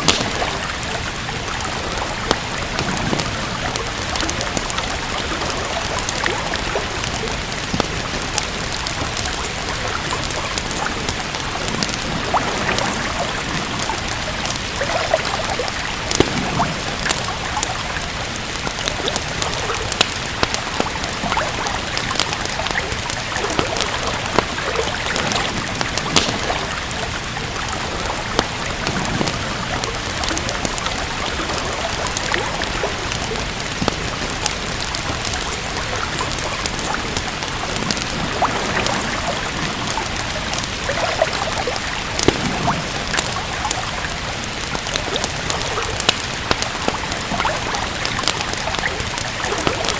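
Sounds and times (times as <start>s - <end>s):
steady rain: 0.0s - 49.9s
wood fire crackling: 0.0s - 49.9s.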